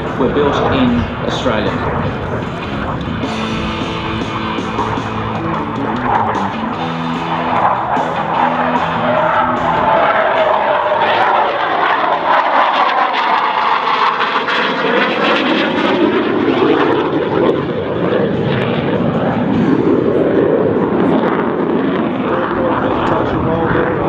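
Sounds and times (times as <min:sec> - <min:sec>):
jet flying past: 0:00.0 - 0:24.0.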